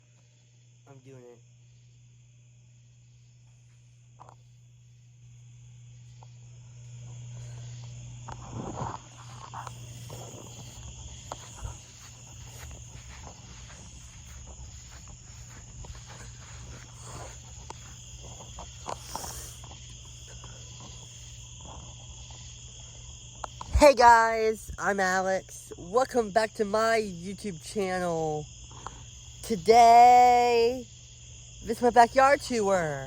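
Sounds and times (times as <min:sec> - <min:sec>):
crickets chirping: 0:00.0 - 0:33.0
low steady hum: 0:00.0 - 0:33.0.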